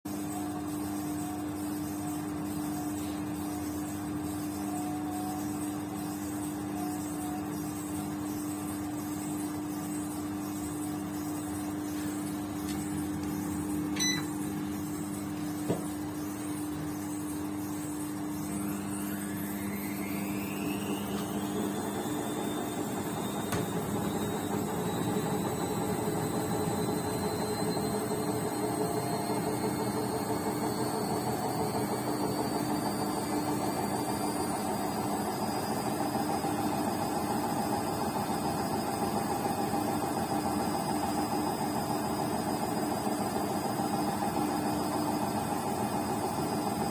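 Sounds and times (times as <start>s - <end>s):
rising whine of spinning drum: 0.1s - 46.9s
washing machine motor hum: 0.1s - 46.9s.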